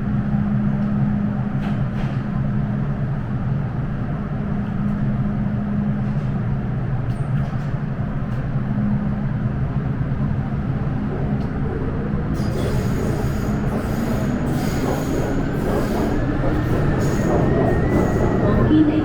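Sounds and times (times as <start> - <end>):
train rail rumble: 0.0 - 19.0.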